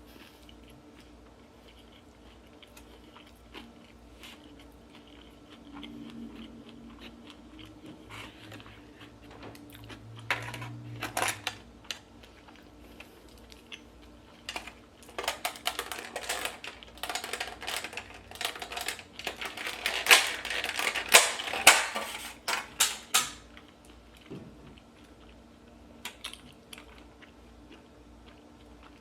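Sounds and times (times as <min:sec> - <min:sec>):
chewing and food crackling: 0:00.0 - 0:29.0.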